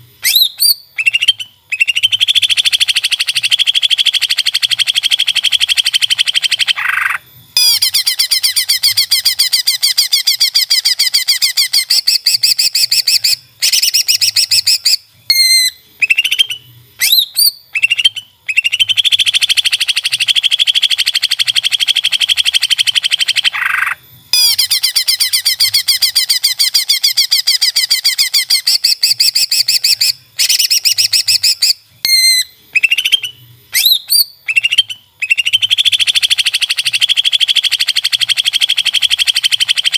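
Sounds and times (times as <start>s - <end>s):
bird singing buzzy trills and whistles: 0.0s - 39.9s.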